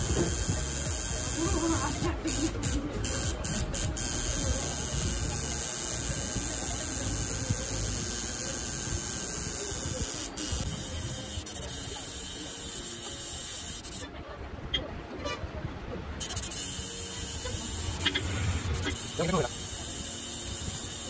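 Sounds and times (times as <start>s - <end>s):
tattoo machine buzzing: 0.0s - 14.1s, 16.2s - 21.0s.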